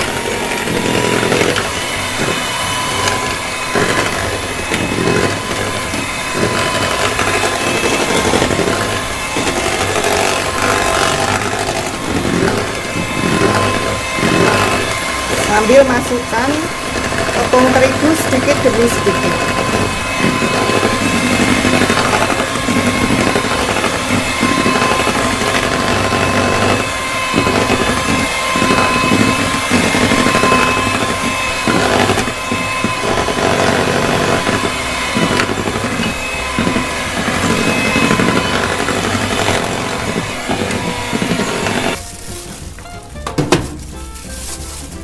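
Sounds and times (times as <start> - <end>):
beaters churning thick batter: 0.0 - 45.0
electric hand mixer whine: 0.0 - 45.0.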